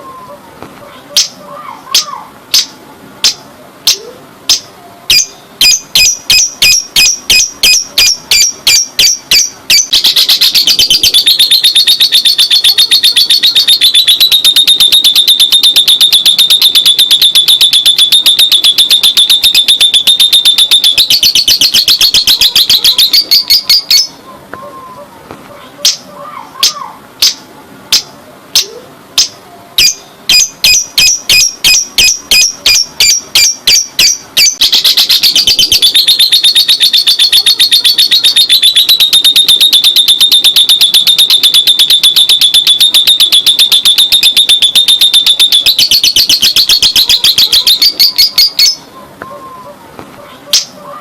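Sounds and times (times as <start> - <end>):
lovebird chattering song: 1.1 - 25.0, 25.8 - 49.7.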